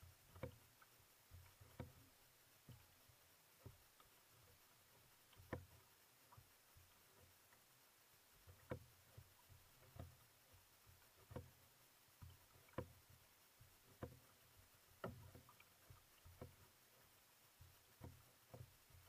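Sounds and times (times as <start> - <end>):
water slapping against hull: 0.0 - 19.0.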